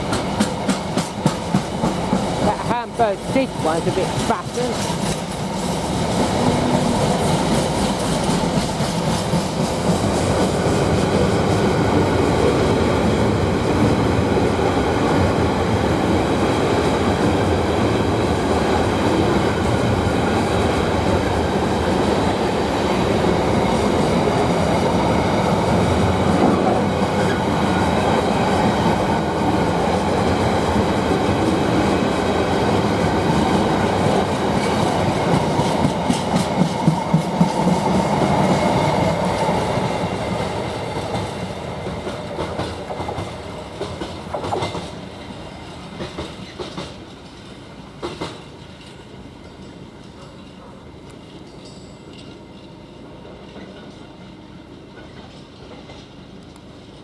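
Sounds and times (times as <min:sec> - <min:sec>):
freight train wheels clattering: 0:00.0 - 0:12.5, 0:16.9 - 0:56.4.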